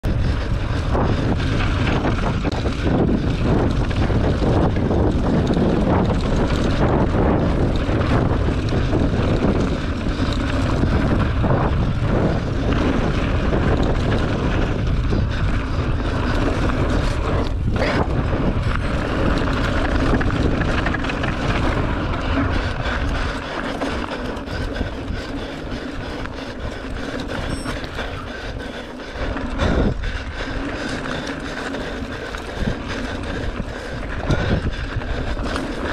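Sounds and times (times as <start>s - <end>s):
bike rattling over bumps: 0.0s - 35.9s
wind rumble on microphone: 0.0s - 35.9s.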